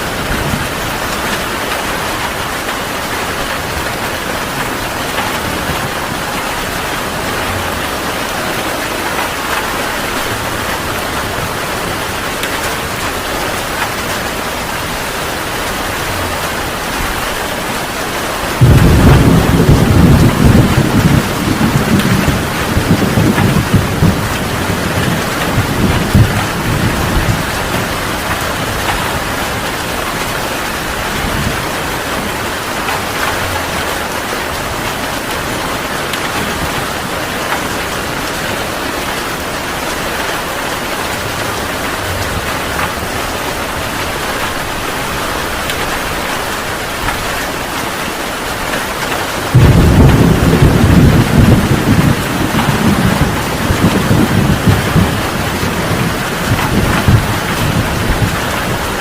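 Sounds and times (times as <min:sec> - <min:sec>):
heavy rain falling: 0:00.0 - 0:59.0
thunder rumbling: 0:00.0 - 0:59.0.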